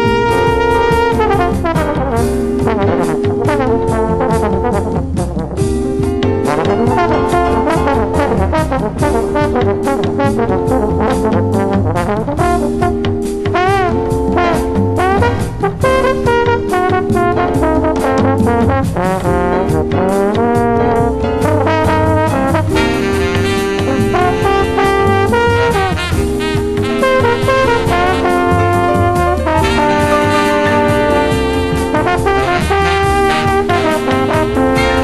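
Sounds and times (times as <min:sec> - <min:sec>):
bass: 0:00.0 - 0:35.0
brass playing chords and riffs: 0:00.0 - 0:35.0
drum beat: 0:00.0 - 0:35.0.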